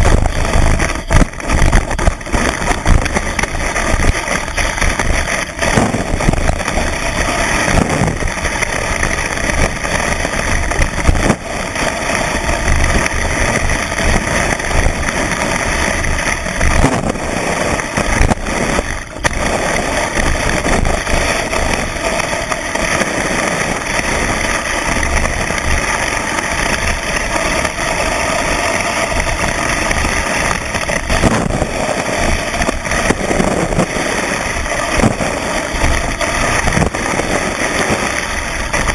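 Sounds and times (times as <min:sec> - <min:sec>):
skis rushing over snow: 0:00.0 - 0:38.9.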